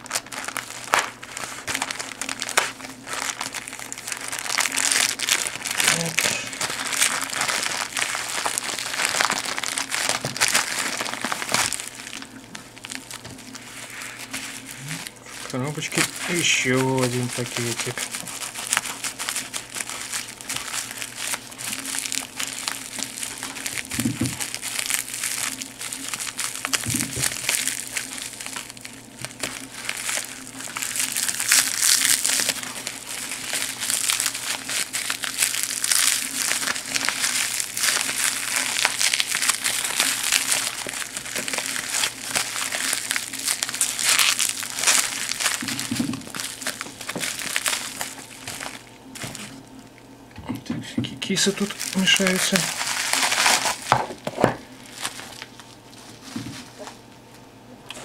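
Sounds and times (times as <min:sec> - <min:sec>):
bubble wrap crinkling: 0:00.0 - 0:50.1, 0:51.2 - 0:57.1.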